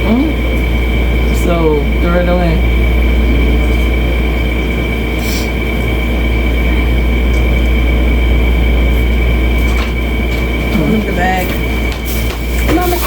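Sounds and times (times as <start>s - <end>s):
high-pitched whine: 0.0s - 13.0s
low mechanical hum: 0.0s - 13.0s.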